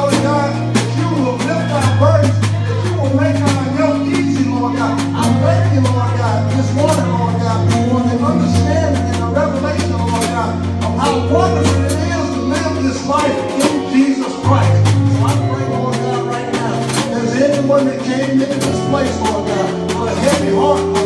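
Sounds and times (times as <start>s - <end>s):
bass notes: 0.0s - 21.0s
drum kit playing: 0.0s - 21.0s.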